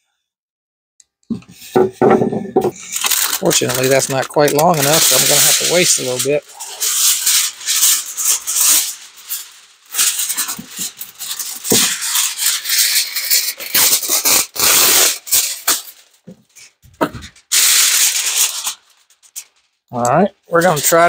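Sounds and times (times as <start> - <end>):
foil sheet crinkling: 2.7 - 19.7, 20.6 - 21.0.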